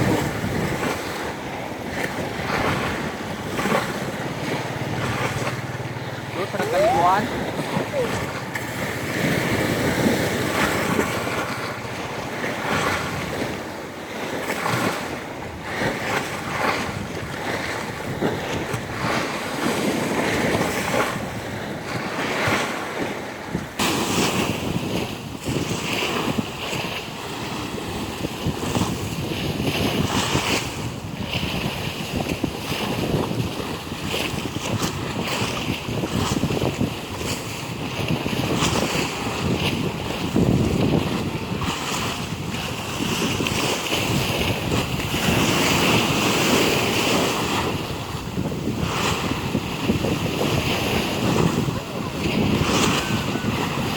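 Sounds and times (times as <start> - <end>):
sea surf breaking: 0.0 - 53.9
wind buffeting microphone: 0.0 - 53.9.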